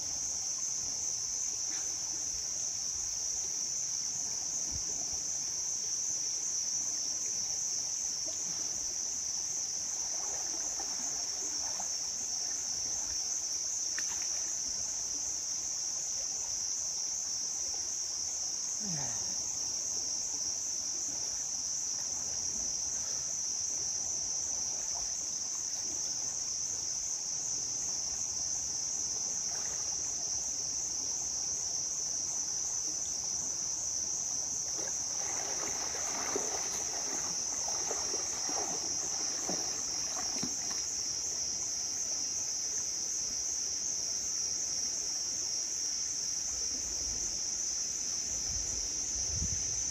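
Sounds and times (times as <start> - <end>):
shrill insect chorus: 0.0 - 49.9.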